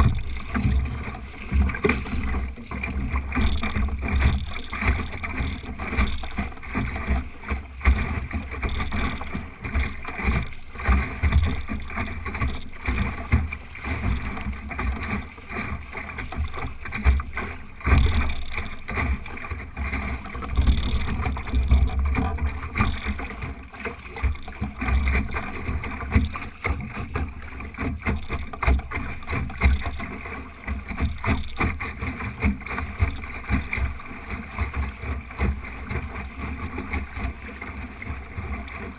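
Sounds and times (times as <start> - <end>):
water rushing along boat hull: 0.0 - 38.9.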